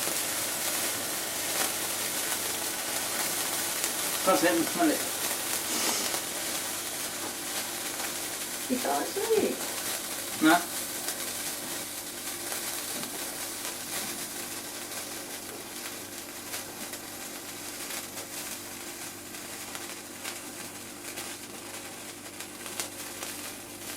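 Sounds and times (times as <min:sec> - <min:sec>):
fire crackling and popping: 0:00.0 - 0:23.9.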